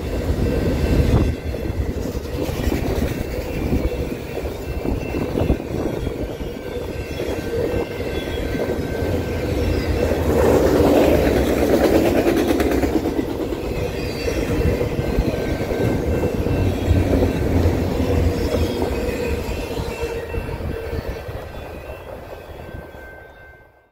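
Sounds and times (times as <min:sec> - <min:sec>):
train wheels rumbling and clacking: 0:00.0 - 0:23.0.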